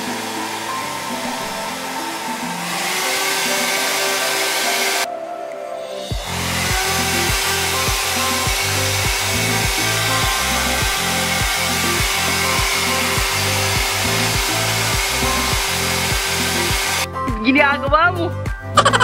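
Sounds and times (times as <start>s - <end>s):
hair dryer blowing: 0.0s - 5.1s, 6.0s - 17.1s
background music with steady beat: 0.0s - 19.0s.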